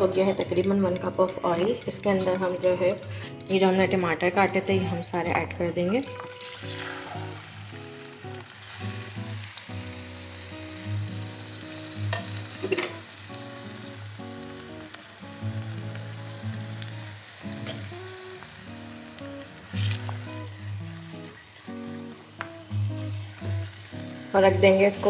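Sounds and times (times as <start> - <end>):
soft background music: 0.0 - 25.0
tomatoes sizzling in hot oil: 0.0 - 25.0.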